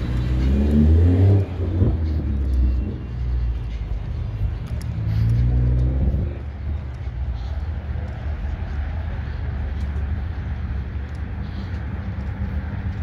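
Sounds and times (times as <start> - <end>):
car engine exhaust drone: 0.0 - 13.0.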